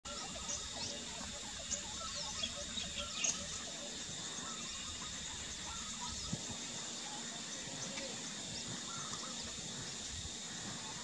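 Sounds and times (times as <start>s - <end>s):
bird chirps and calls: 0.1s - 9.6s
steady high hiss: 0.1s - 11.0s.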